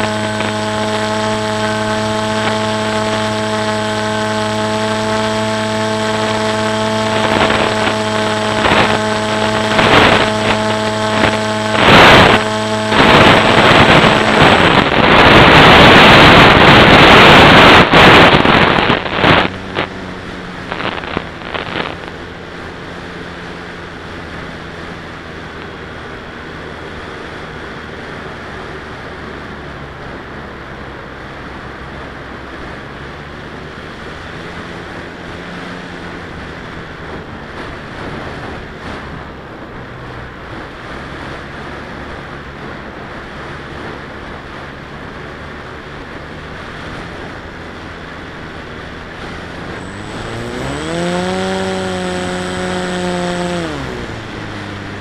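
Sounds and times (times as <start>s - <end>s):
electric motor and propeller whine: 0.0s - 55.0s
loud rush of wind: 0.0s - 55.0s
wind buffeting microphone: 0.0s - 55.0s.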